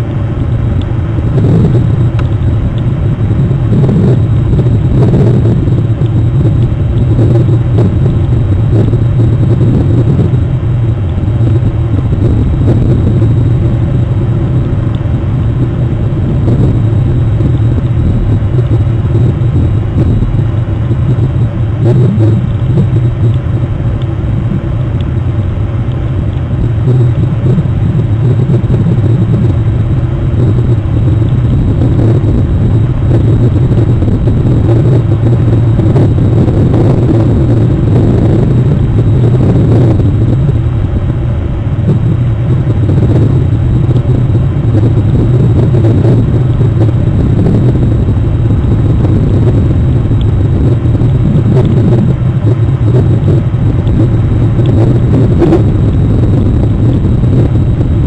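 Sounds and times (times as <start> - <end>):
distant ship engines droning: 0.0 - 58.0.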